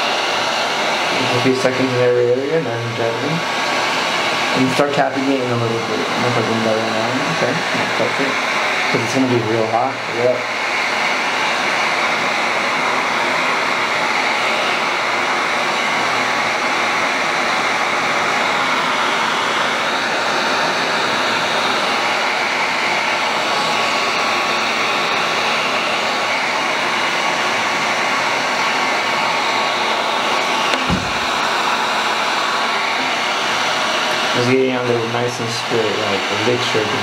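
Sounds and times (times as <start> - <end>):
heat gun fan blowing: 0.0 - 37.0.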